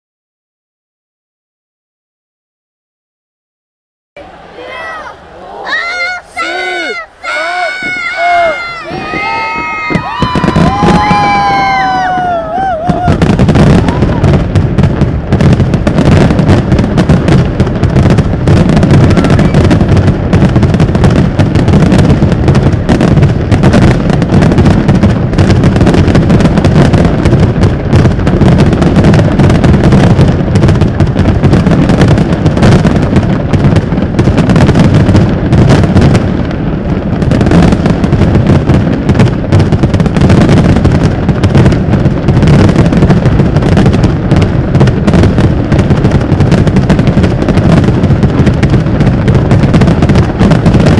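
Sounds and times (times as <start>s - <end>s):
fireworks booming and crackling: 4.2s - 50.9s.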